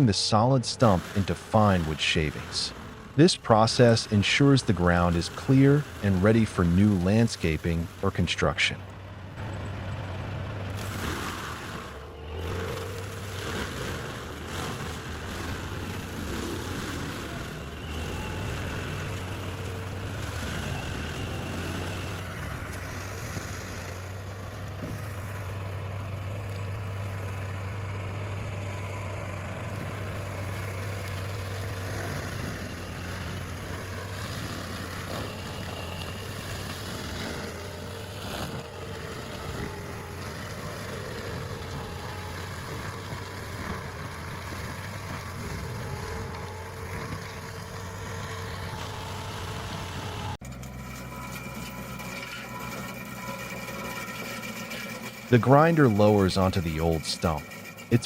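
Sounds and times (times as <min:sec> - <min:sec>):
grinding noise: 0:00.0 - 0:58.0
stump grinder engine droning: 0:00.0 - 0:58.0.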